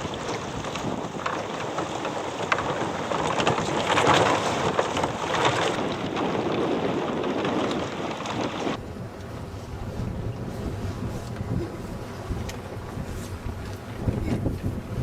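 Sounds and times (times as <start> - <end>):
water splashing around boat: 0.0 - 15.0
wind buffeting microphone: 0.0 - 15.0.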